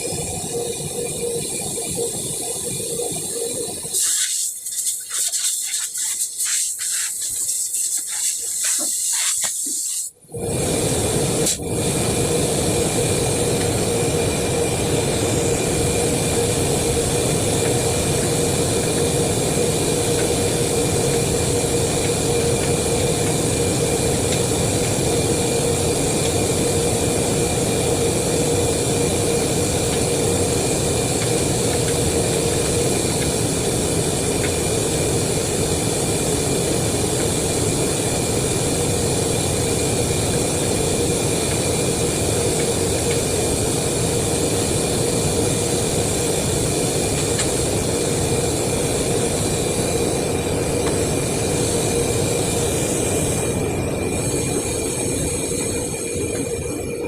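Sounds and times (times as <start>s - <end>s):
machine humming and hissing: 0.0s - 57.0s.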